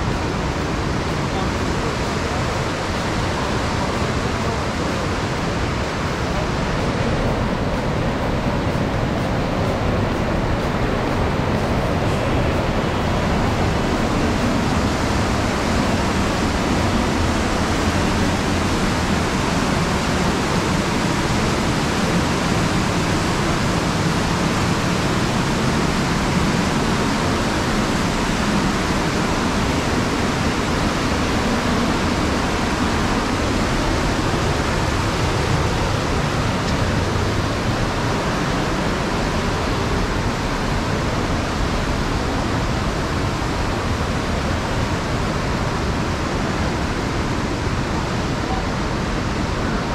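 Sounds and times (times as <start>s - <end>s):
river rushing through rapids: 0.0s - 49.9s.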